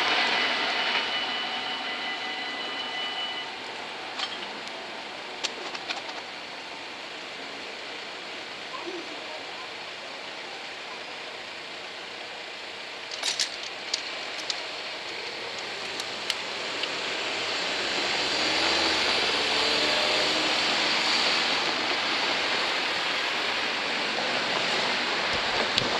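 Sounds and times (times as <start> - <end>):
train wheels rushing on rails: 0.0 - 25.9.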